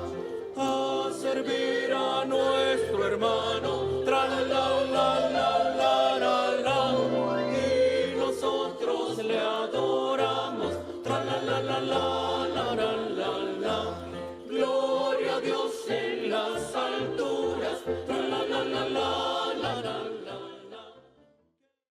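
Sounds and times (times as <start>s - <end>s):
choir singing a carol: 0.0s - 21.3s.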